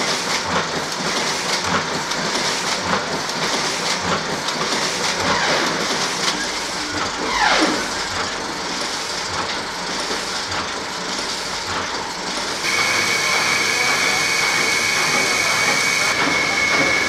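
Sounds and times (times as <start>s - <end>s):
printing press clattering: 0.0s - 17.0s.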